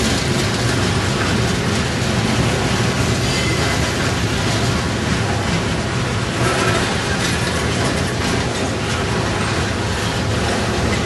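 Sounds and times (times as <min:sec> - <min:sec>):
steel wheels on rails: 0:00.0 - 0:11.0.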